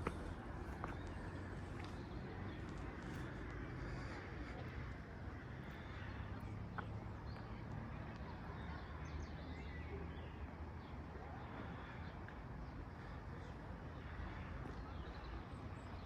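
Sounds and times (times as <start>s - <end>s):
low rumble of street: 0.0s - 16.0s.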